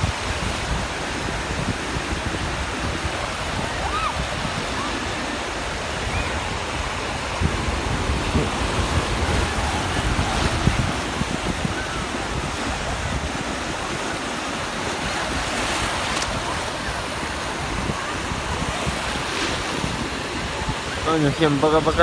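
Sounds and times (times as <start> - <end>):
small waves breaking on shore: 0.0 - 22.0
wind buffeting microphone: 0.0 - 22.0.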